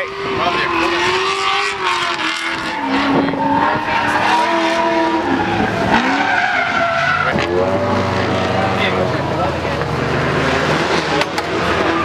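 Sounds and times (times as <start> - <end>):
car engines revving: 0.0 - 12.0
tires squealing: 0.0 - 12.0.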